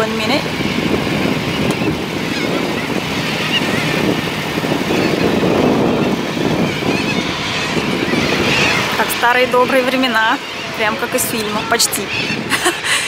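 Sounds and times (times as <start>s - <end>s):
faint bird calls: 0.0s - 12.9s
wind buffeting microphone: 0.0s - 13.0s.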